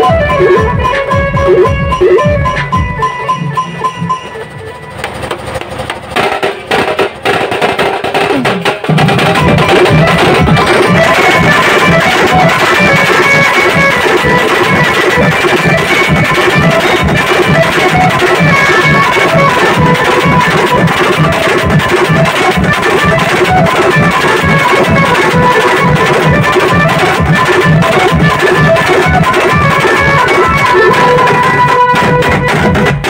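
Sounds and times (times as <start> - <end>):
barrel drums beating: 0.0 - 33.0
held melody line: 0.0 - 33.0.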